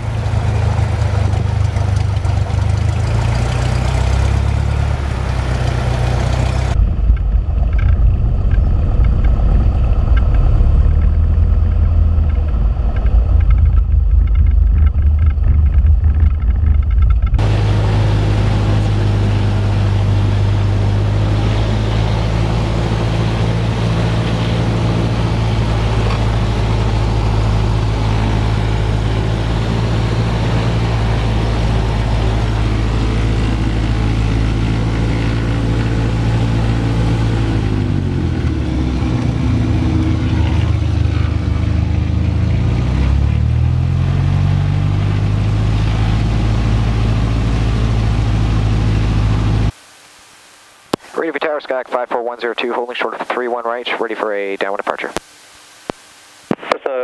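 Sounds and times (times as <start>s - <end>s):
aircraft engine and propeller: 0.0s - 49.8s.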